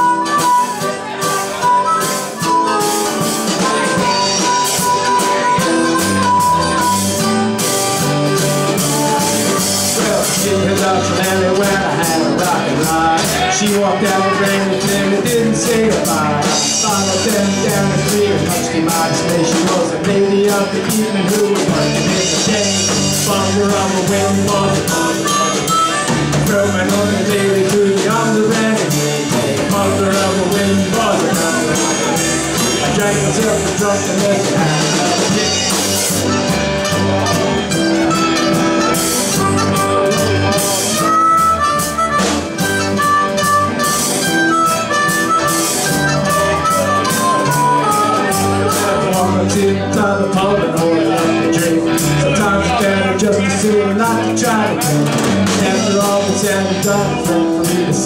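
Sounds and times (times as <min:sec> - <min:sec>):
drum kit: 0:00.0 - 0:58.0
electric guitars: 0:00.0 - 0:58.0
harmonica through microphone: 0:00.0 - 0:58.0
person singing: 0:00.0 - 0:58.0.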